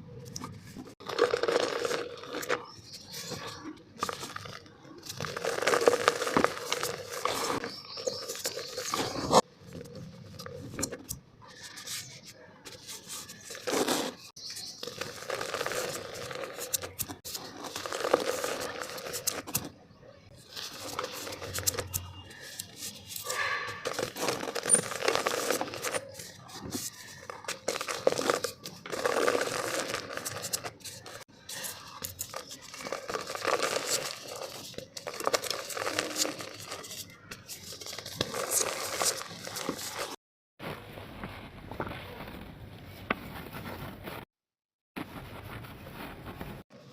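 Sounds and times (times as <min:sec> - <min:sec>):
dried mud crumbling in clay pot: 0:00.1 - 0:44.2.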